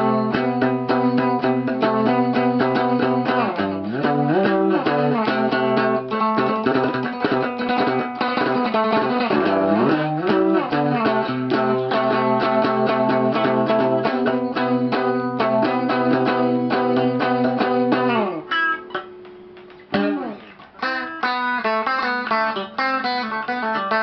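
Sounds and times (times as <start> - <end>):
instrumental guitar music: 0.0 - 24.0.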